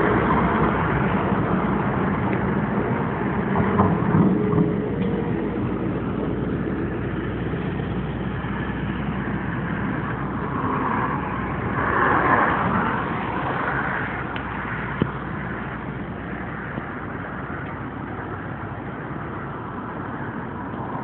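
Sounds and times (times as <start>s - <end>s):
highway traffic passing: 0.0s - 21.0s
vehicle passing by: 0.0s - 21.0s.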